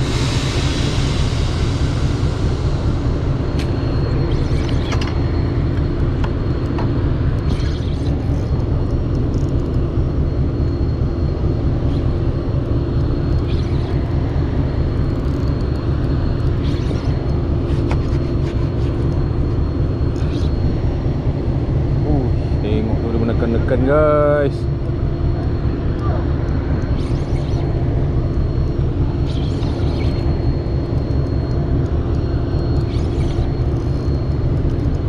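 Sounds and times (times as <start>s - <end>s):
large engine droning: 0.0s - 35.0s.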